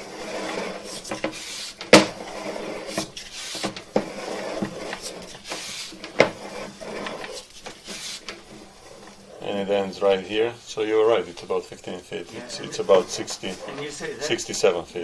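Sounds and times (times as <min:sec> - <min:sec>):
cable rubbing and scraping: 0:00.0 - 0:10.2, 0:12.2 - 0:14.8.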